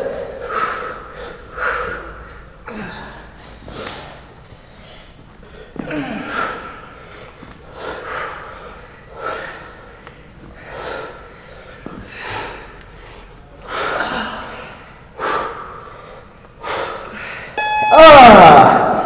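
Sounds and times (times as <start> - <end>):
people breathing heavily: 0.0 - 17.6.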